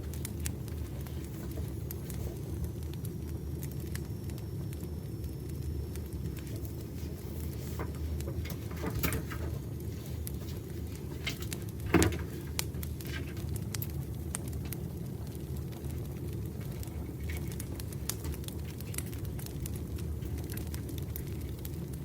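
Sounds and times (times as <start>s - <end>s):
burning wood popping: 0.0s - 22.0s
campfire crackling: 0.0s - 22.0s.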